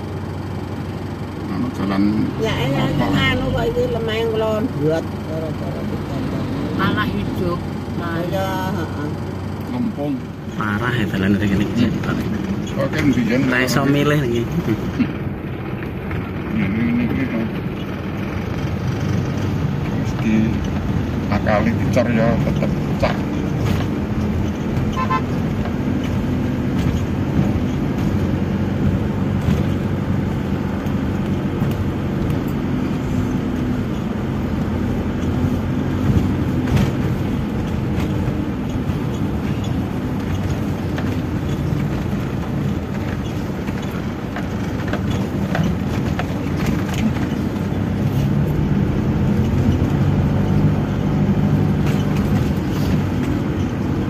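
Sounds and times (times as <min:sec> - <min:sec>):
diesel engine and tyre drone: 0:00.0 - 0:54.0
knocks and rattles from road: 0:00.0 - 0:54.0.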